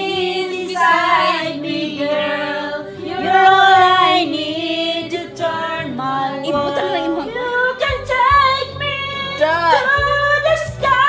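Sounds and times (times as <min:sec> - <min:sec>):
backing track music: 0:00.0 - 0:11.0
woman singing karaoke: 0:00.0 - 0:11.0.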